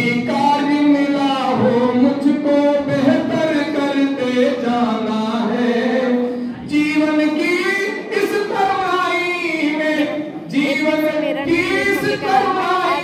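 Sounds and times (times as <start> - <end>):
man singing into microphone: 0.0 - 13.0.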